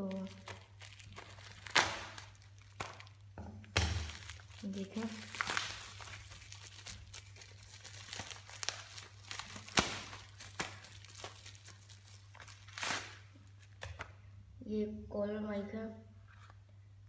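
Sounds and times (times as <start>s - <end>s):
bubble wrap crackling: 0.0s - 14.0s.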